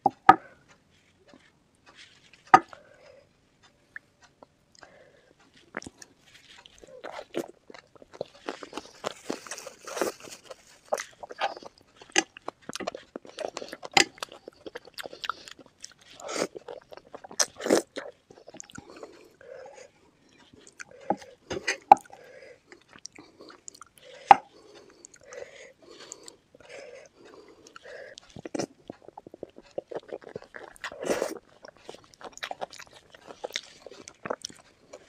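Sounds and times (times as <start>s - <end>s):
soft rounded mouth sounds: 3.9s - 35.0s
wet chewing and biting: 4.0s - 35.0s.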